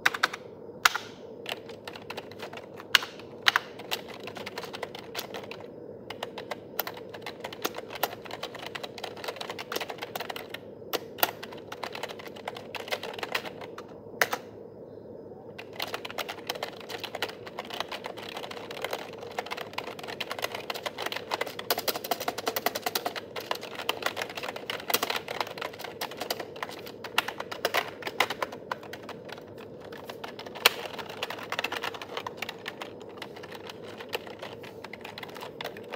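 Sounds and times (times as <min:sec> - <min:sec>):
keyboard key clicks: 0:00.0 - 0:14.5, 0:15.6 - 0:35.9.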